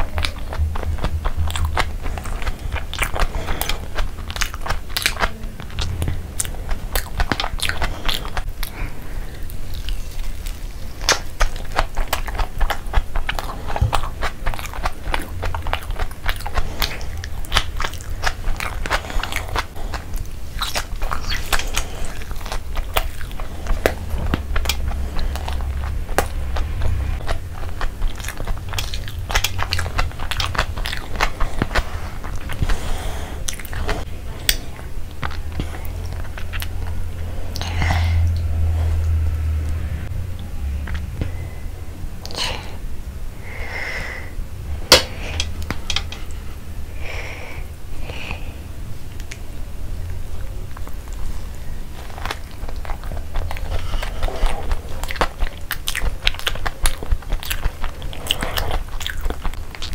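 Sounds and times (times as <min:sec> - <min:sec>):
chewing and crunching burger: 0:00.0 - 0:39.2, 0:50.1 - 0:59.9.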